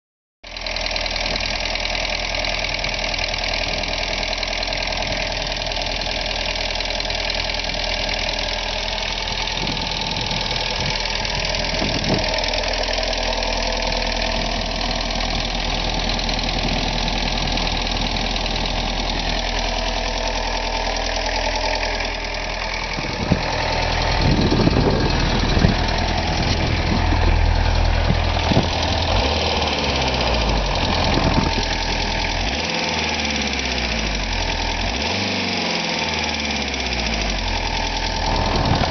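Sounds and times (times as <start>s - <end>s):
diesel engine running: 0.5s - 38.9s
engine ticking: 0.5s - 38.9s.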